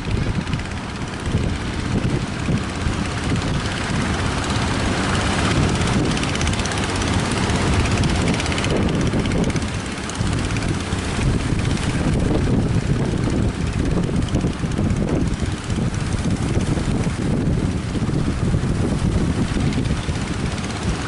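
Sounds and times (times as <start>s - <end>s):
continuous rumbling drone: 0.0s - 21.0s
strong wind buffeting microphone: 0.0s - 21.0s.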